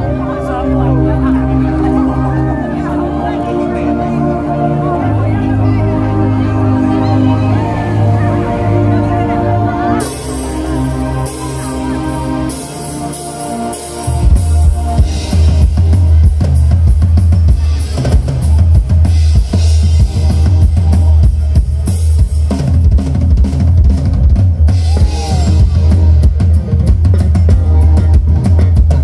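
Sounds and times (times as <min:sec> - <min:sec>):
heavy bass: 0:00.0 - 0:29.0
live band playing: 0:00.0 - 0:29.0.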